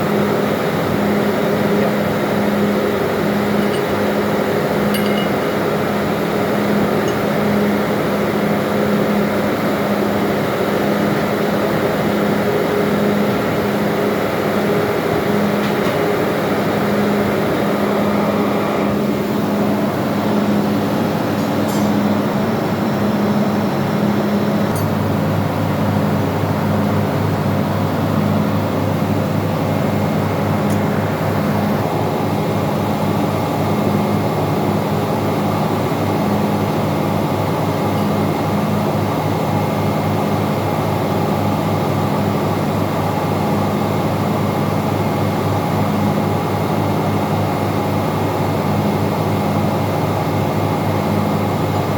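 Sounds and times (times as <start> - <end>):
engine-room machinery drone: 0.0 - 51.9.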